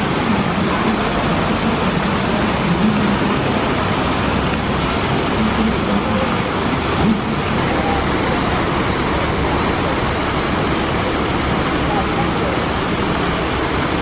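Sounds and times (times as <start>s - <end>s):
car engines running at low revs: 0.0s - 14.0s
steady rushing background noise: 0.0s - 14.0s.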